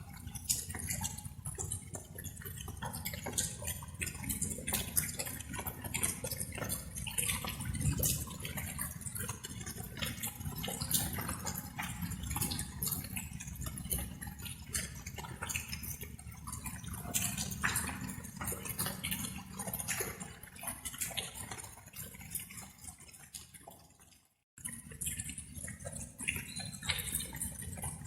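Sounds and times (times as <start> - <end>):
water dripping: 0.0 - 28.0.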